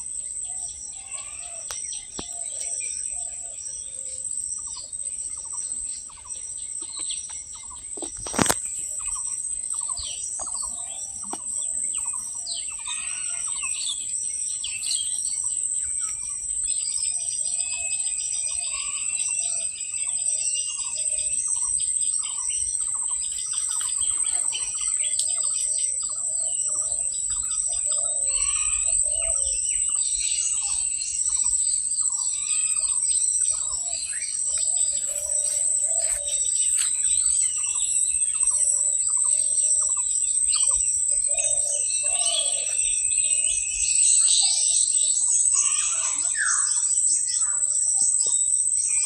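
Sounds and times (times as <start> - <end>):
birds chirping and calling: 0.0 - 49.0
high insect drone: 0.0 - 49.0.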